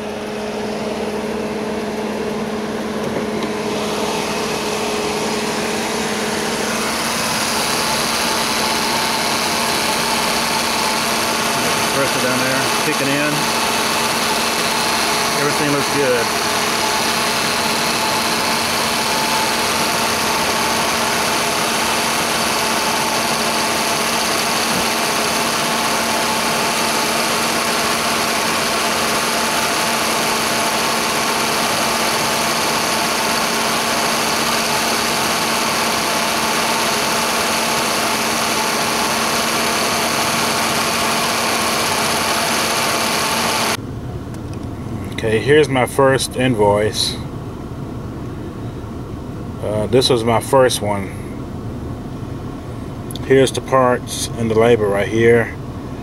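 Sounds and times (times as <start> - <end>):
car engine idling: 0.0 - 56.0
constant hum: 0.0 - 56.0.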